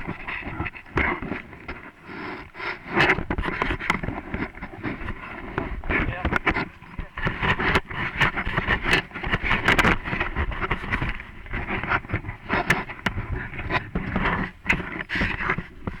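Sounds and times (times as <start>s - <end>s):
wind noise on microphone: 0.0s - 16.0s
bike rattling over bumps: 3.0s - 16.0s.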